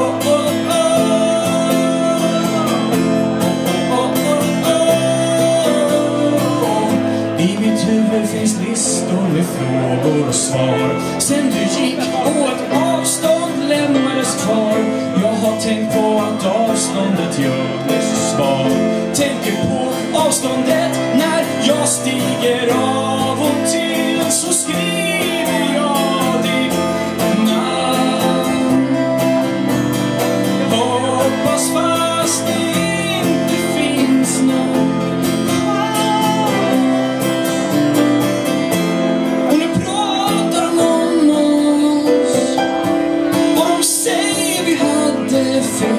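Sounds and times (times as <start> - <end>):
guitars: 0.0 - 45.9
keyboard: 0.0 - 45.9
person singing: 0.0 - 45.9.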